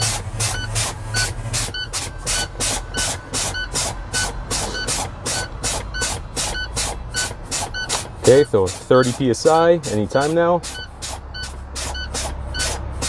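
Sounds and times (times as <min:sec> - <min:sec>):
air brake hisses: 0:00.0 - 0:09.3, 0:10.2 - 0:13.0
low air warning beeps: 0:00.0 - 0:09.3, 0:10.0 - 0:12.8.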